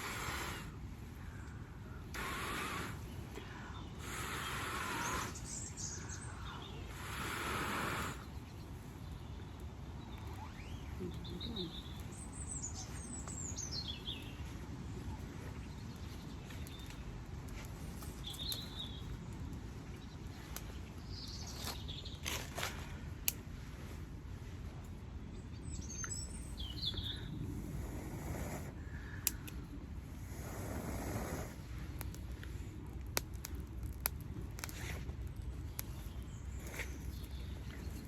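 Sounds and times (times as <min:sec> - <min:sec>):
small birds chirping: 0:00.0 - 0:23.4, 0:24.8 - 0:38.0.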